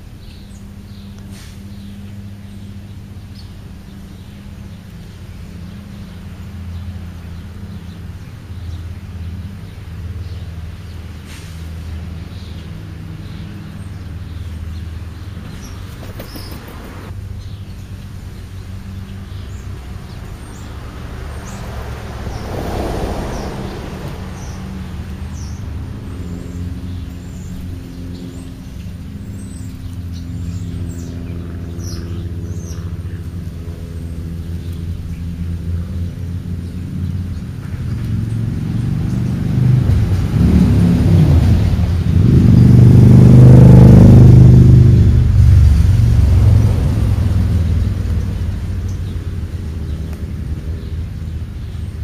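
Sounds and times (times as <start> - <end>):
low motor hum: 0.0 - 52.0
vehicle passing: 0.0 - 52.0.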